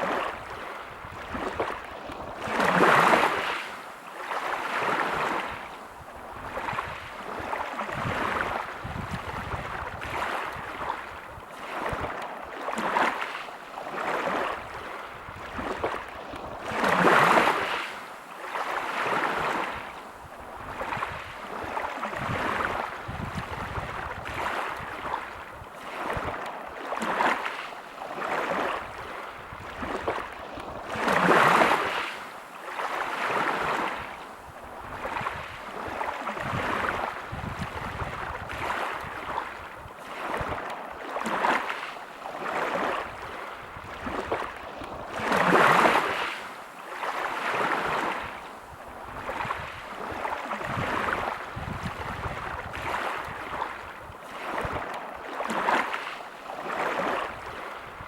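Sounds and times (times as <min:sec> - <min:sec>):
waves washing over pebbles: 0:00.0 - 0:58.0.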